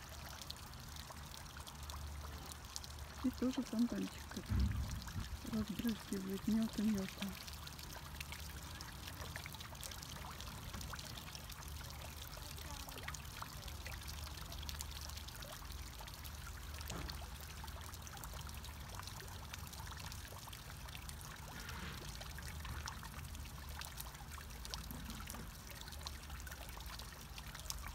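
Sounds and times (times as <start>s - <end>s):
fountain water splashing: 0.0s - 27.9s
low steady rumble: 0.0s - 27.9s.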